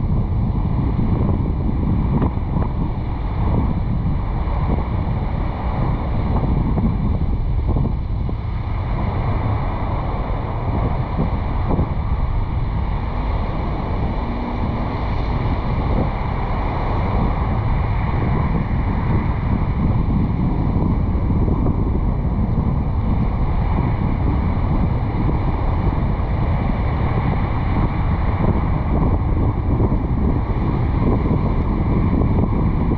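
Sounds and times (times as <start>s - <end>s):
car driving noise: 0.0s - 32.8s
wind rushing over camera: 0.0s - 32.9s.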